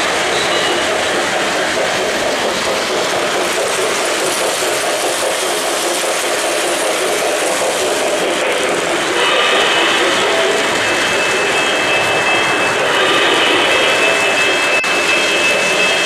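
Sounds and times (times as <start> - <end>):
model train wheels on rails: 0.0 - 16.0.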